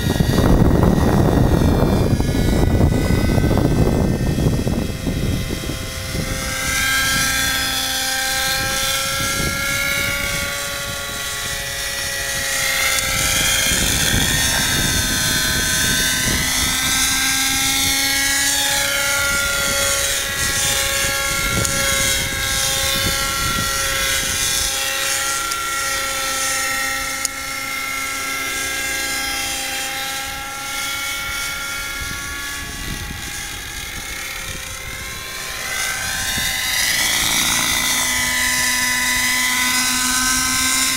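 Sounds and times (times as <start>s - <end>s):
model helicopter whine: 0.0s - 40.9s.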